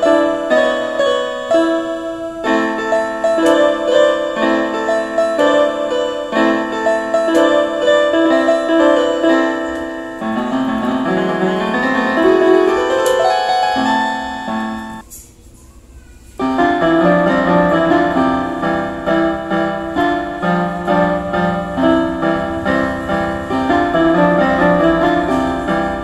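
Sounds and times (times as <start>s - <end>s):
electronic keyboard piano melody: 0.0s - 15.0s, 16.4s - 26.0s.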